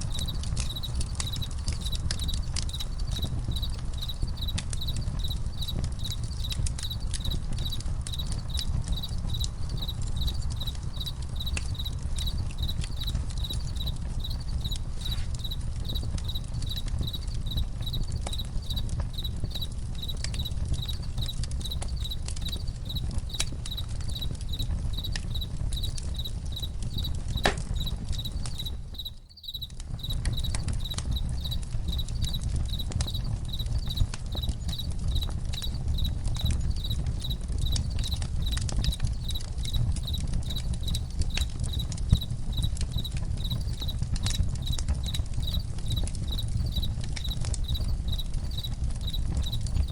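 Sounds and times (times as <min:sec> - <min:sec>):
campfire crackling and popping: 0:00.0 - 0:49.9
crickets chirping: 0:00.0 - 0:49.9.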